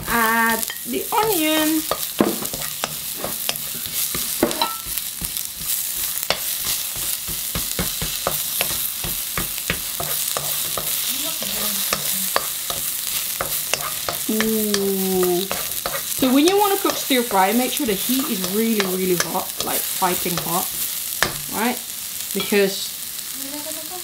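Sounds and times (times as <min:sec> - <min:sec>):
onion and garlic sizzling in a wok: 0:00.0 - 0:24.0
spatula clicking and scraping pan: 0:00.2 - 0:21.6.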